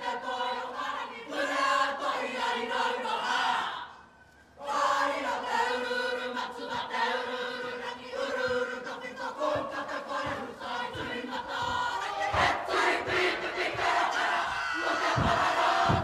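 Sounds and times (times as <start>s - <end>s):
group of mixed voices singing: 0.0s - 4.0s, 4.6s - 16.0s.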